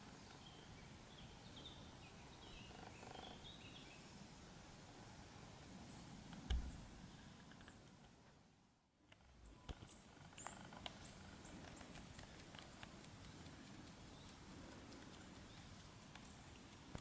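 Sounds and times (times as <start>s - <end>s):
faint birdsong chirps: 0.0s - 4.4s, 5.6s - 7.9s, 9.2s - 17.0s.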